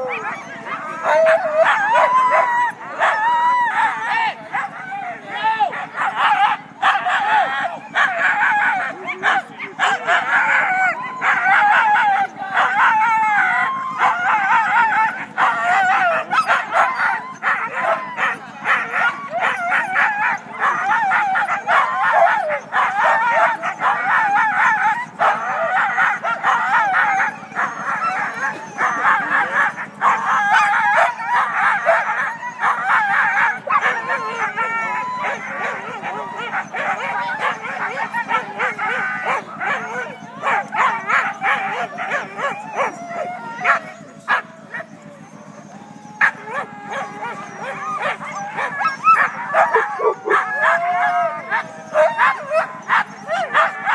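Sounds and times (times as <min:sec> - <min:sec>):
dogs barking yipping and howling: 0:00.0 - 0:53.9.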